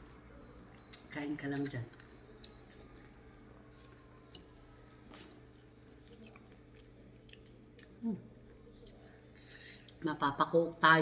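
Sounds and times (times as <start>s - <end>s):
chewing and mouth sounds: 0.0s - 10.0s
low steady hum: 0.0s - 11.0s.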